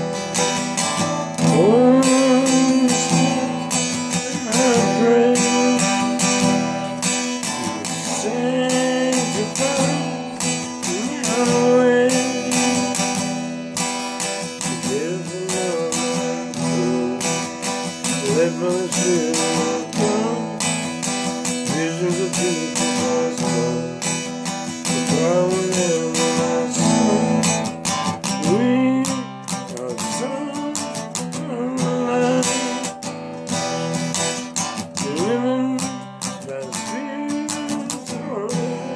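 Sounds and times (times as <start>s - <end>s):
strummed acoustic guitar chords: 0.0s - 38.9s.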